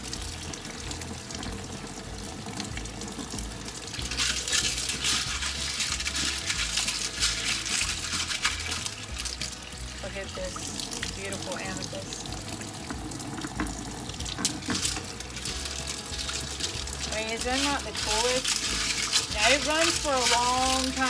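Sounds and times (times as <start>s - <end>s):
faucet running into sink: 0.0s - 21.0s.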